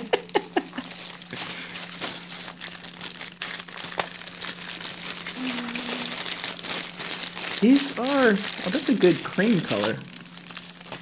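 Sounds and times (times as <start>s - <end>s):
plastic bags crinkling: 0.0s - 11.0s
steady low hum: 0.0s - 11.0s.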